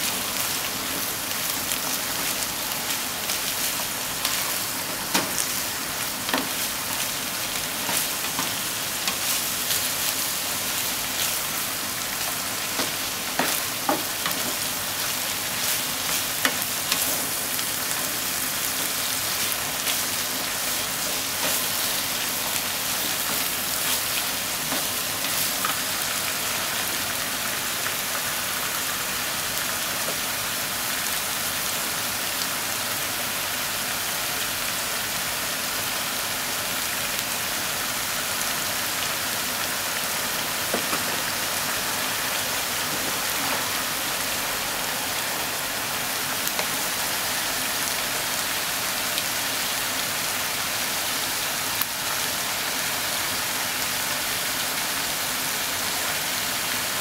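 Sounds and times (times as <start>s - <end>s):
meat and onion sizzling in a pan: 0.0s - 57.0s.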